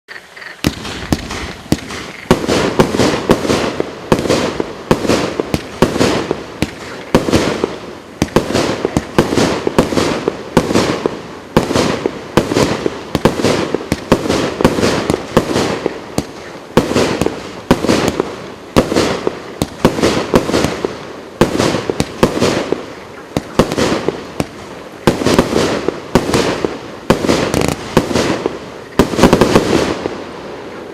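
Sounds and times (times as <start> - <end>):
firework shots banging: 0.6 - 30.3.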